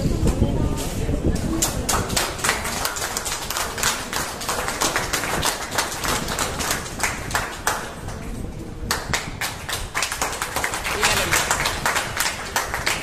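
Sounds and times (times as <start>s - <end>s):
crowd clapping: 1.6s - 13.0s.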